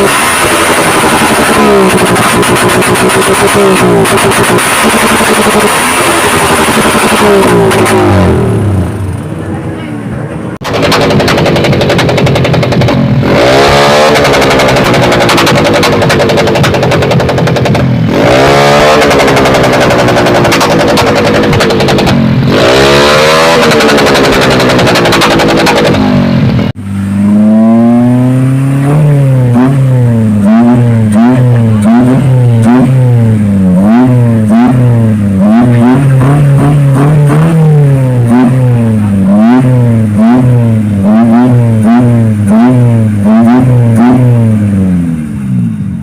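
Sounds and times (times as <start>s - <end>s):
loud revving engine-like sound: 0.0s - 9.7s, 10.5s - 46.0s.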